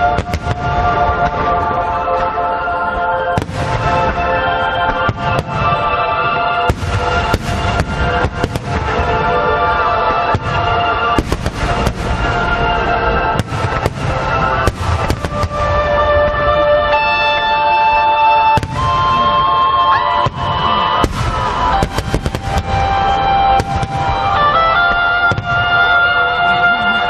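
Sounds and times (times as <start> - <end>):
background music: 0.0 - 27.0
fireworks bangs: 0.0 - 27.0.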